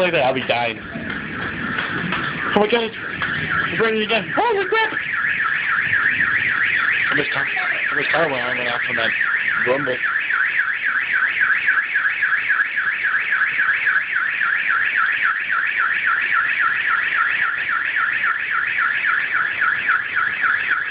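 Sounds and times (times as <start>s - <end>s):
car alarm siren warbling: 0.0s - 20.9s.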